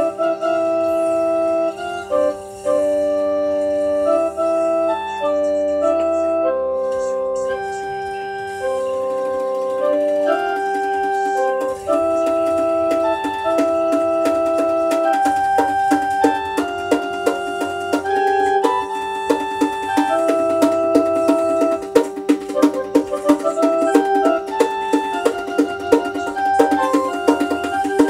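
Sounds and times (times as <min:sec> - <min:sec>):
organ-like keyboard chords: 0:00.0 - 0:28.0.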